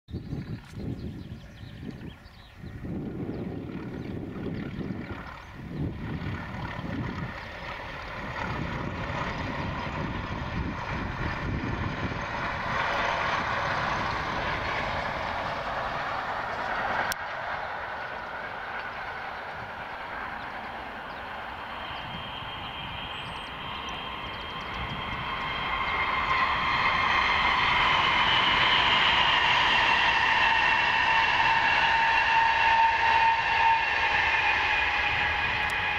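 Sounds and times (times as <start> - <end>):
wind on microphone: 0.1 - 17.6, 18.9 - 35.9
distant diesel locomotive rumble: 0.1 - 35.9
passing train whine: 0.1 - 35.9.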